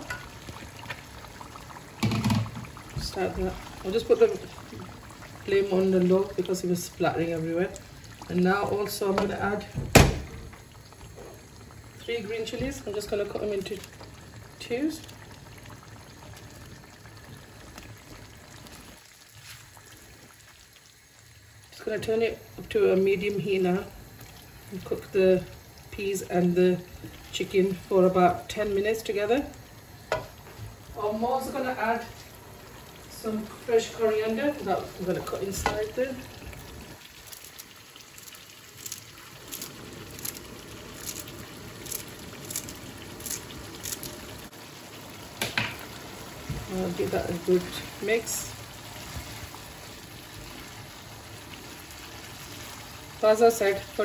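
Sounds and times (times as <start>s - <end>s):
curry sizzling and bubbling: 0.0s - 54.0s.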